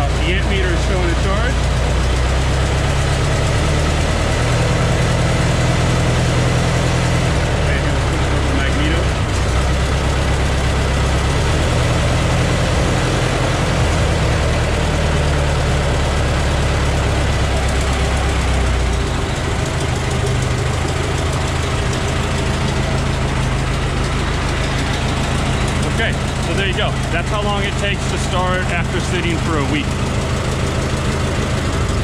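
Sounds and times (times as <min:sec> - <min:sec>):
old car engine idling: 0:00.0 - 0:32.0.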